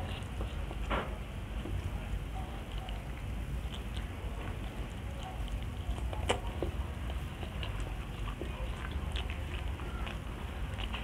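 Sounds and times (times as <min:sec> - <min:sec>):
chewing with mouth clicks: 0:00.0 - 0:11.0.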